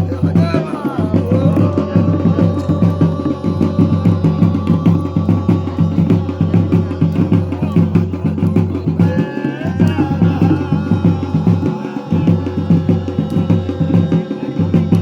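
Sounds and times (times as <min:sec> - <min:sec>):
fast driving drum rhythm: 0:00.0 - 0:15.0.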